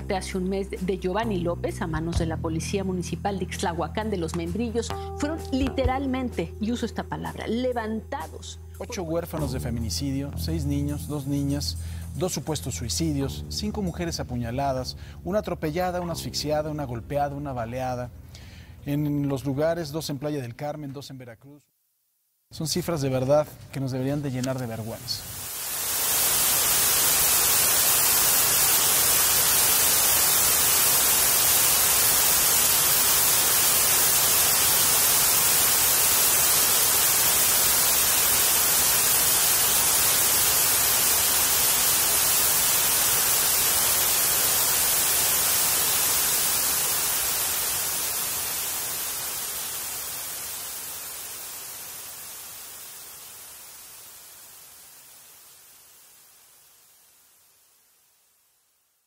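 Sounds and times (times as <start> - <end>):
static hiss: 0.0 - 20.2, 22.5 - 59.0.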